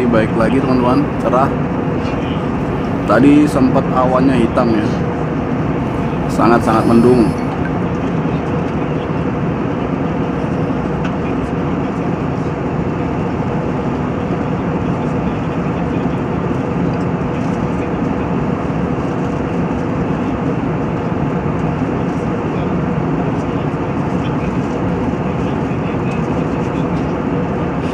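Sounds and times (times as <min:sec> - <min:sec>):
faint steady hum: 0:00.0 - 0:27.9
jet cabin rushing noise: 0:00.0 - 0:27.9.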